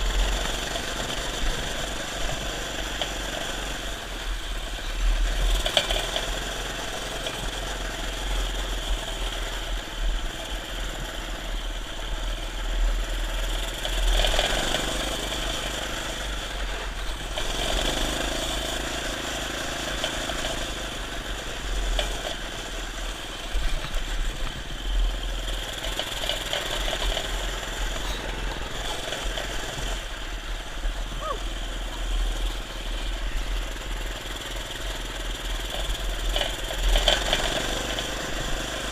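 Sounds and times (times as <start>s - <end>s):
minibike engine running: 0.0s - 38.9s.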